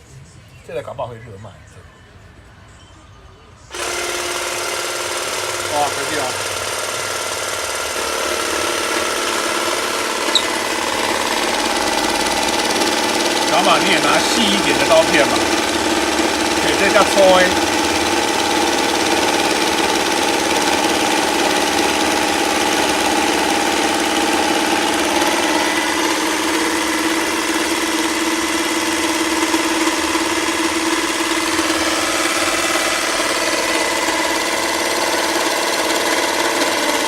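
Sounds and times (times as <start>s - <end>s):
jigsaw cutting: 3.7s - 37.0s.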